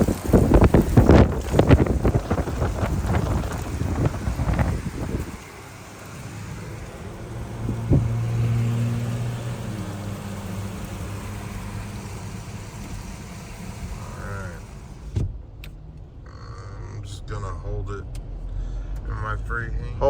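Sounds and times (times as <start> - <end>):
wind rushing around car: 0.0 - 16.3
car engine hum: 0.0 - 20.0
road noise: 0.0 - 20.0.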